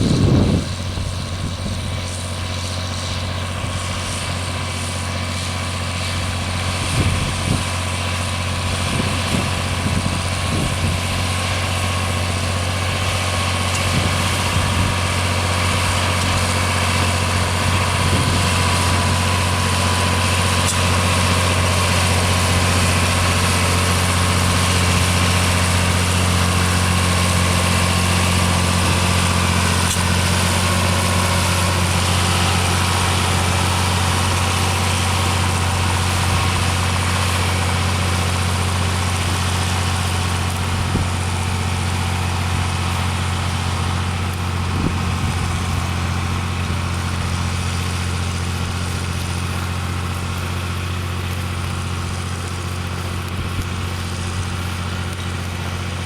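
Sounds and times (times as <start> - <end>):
sawmill mechanical noise: 0.0 - 56.0
tractor engine droning: 0.0 - 56.0.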